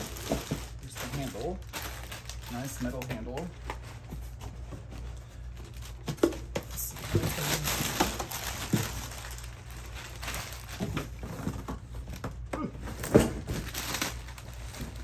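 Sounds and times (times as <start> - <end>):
plastic and cardboard rustling: 0.0 - 15.0.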